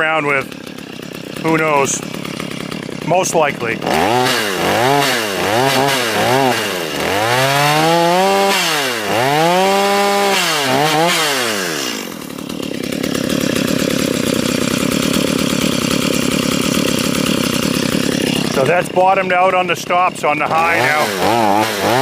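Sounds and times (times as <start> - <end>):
chainsaw engine revving and idling: 0.0 - 22.0.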